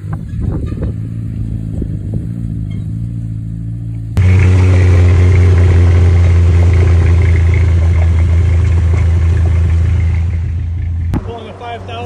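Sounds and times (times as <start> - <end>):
deep engine drone: 0.0 - 12.0.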